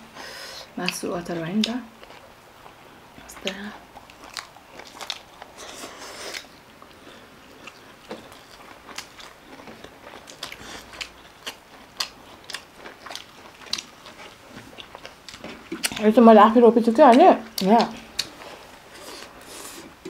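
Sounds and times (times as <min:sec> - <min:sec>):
person chewing crunchy food: 0:01.6 - 0:16.1, 0:17.4 - 0:20.0.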